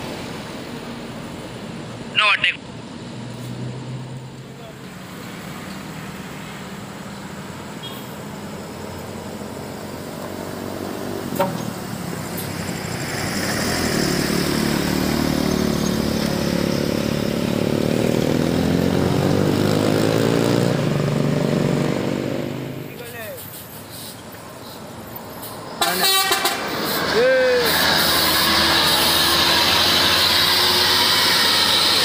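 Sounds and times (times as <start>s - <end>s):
bus diesel engine passing: 0.0s - 32.0s.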